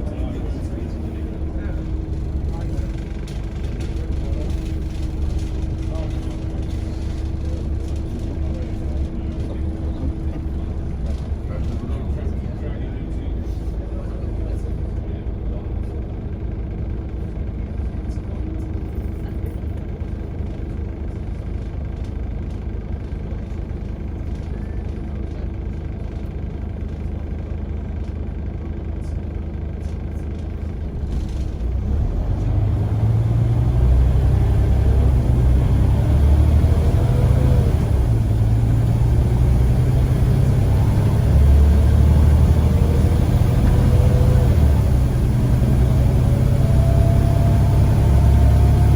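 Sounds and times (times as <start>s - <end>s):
bus engine running: 0.0s - 48.9s.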